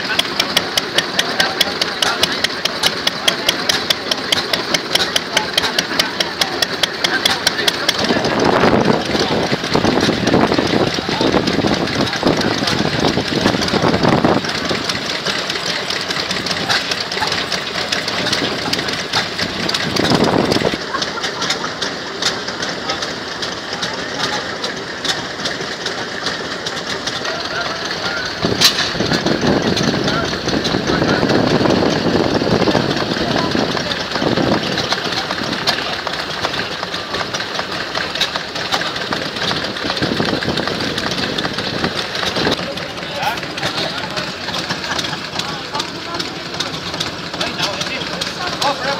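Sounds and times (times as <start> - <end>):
engine with mechanical clatter: 0.0 - 48.9.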